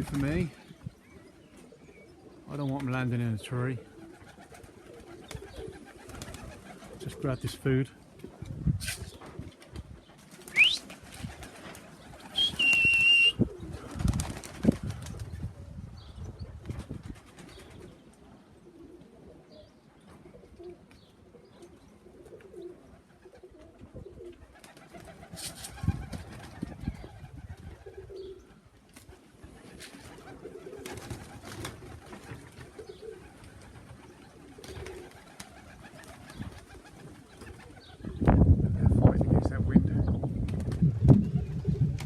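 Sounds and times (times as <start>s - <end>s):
pigeons cooing: 0.0s - 38.4s, 40.8s - 42.0s.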